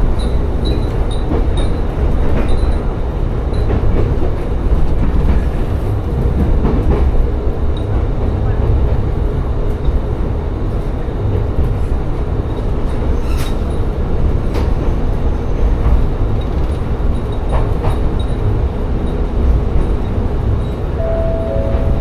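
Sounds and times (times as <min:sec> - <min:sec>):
diesel railcar rumbling: 0:00.0 - 0:22.0.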